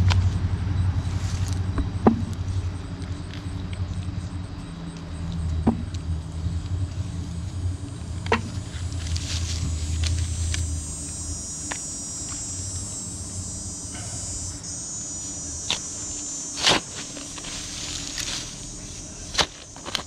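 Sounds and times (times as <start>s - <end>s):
high insect drone: 0.0s - 20.0s
low engine hum: 0.0s - 20.0s.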